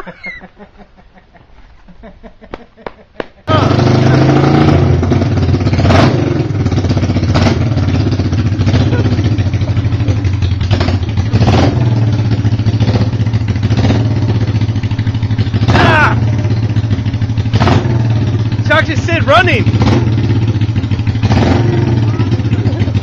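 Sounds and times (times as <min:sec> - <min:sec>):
motorcycle engine running: 0:03.5 - 0:23.0.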